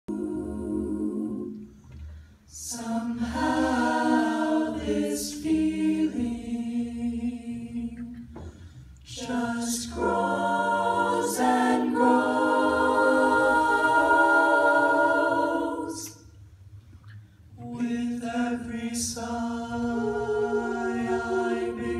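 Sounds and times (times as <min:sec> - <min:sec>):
a cappella jazz group singing: 0:00.0 - 0:16.4, 0:17.5 - 0:21.9.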